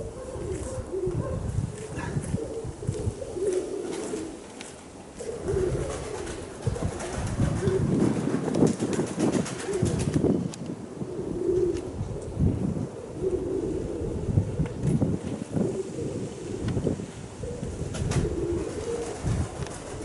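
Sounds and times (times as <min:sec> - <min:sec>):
pigeons cooing: 0:00.0 - 0:20.0
wind buffeting microphone: 0:00.0 - 0:20.0.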